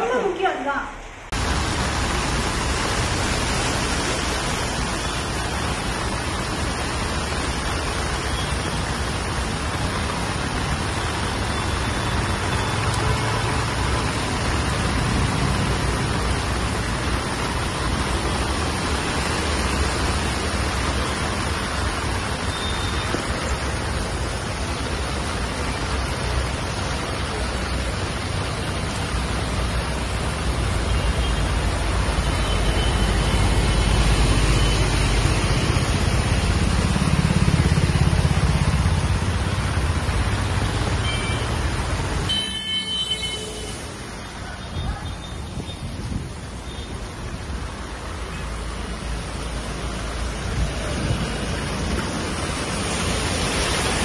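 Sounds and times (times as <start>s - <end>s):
heavy rain pouring: 0.0s - 54.0s
cars driving through water: 1.3s - 54.0s.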